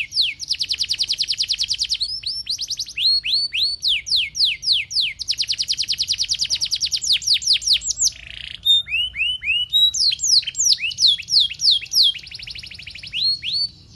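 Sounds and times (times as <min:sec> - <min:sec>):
canary singing: 0:00.0 - 0:13.9.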